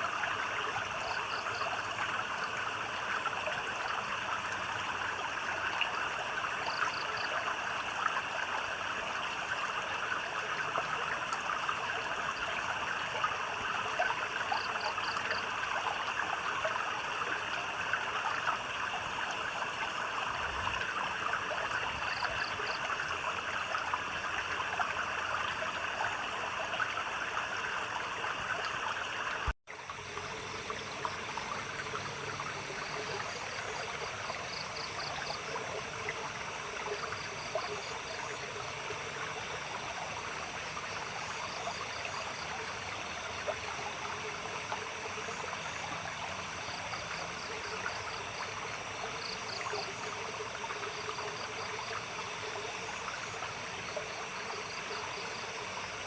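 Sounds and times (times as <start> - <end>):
insects chirping trills: 0.0 - 56.0
stream water trickling: 0.0 - 56.0.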